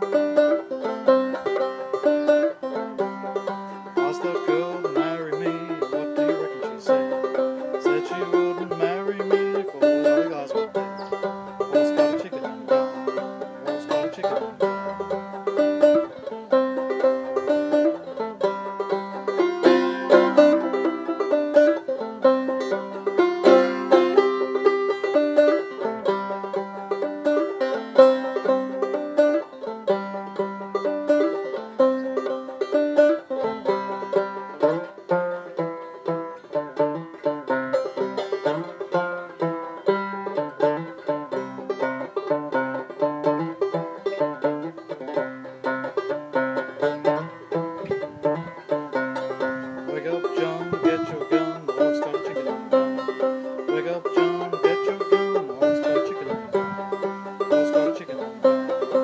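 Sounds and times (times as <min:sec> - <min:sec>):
clawhammer banjo playing: 0:00.0 - 0:59.0.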